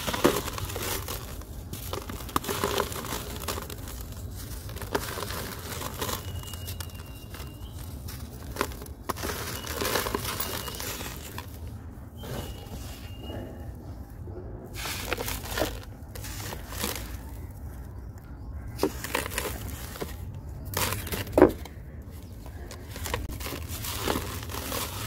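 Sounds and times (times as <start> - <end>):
hands crumbling dry dirt: 0.0 - 13.6, 14.7 - 25.0.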